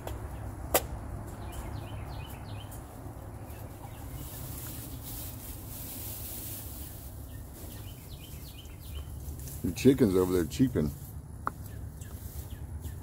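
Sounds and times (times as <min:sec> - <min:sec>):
dry hay rustling: 0:00.0 - 0:13.0
chicks cheeping: 0:01.2 - 0:13.0.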